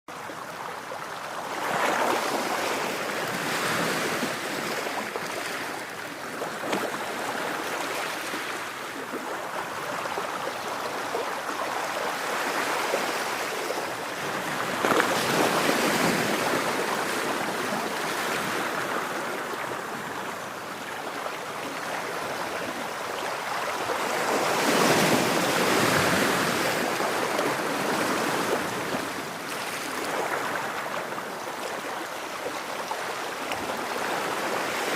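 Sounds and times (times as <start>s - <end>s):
ocean waves breaking on shore: 0.1s - 34.9s.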